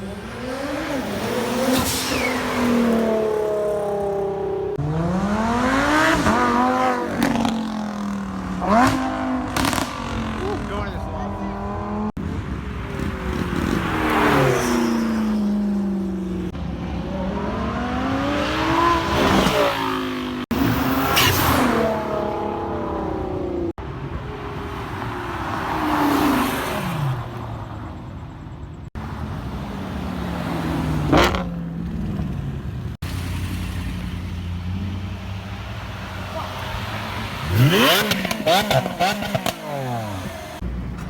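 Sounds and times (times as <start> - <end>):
cars accelerating past: 0.0 - 27.8, 28.9 - 41.0.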